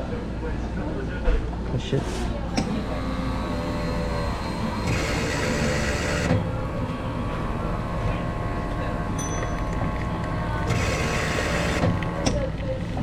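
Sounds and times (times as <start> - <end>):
drink machine humming: 1.8 - 13.0.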